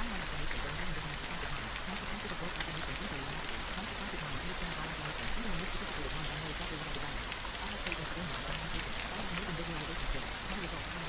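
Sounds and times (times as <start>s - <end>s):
faint low murmuring voice: 0.0s - 11.0s
gentle rain: 0.0s - 11.0s.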